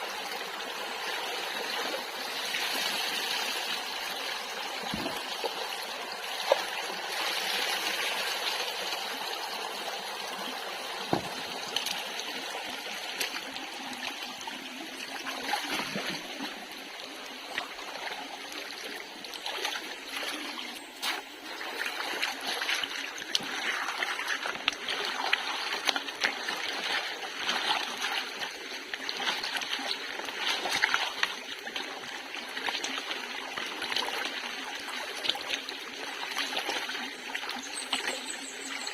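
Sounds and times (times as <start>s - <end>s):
shallow water trickling: 0.2s - 38.2s
water splashing: 0.8s - 9.2s, 10.9s - 38.2s.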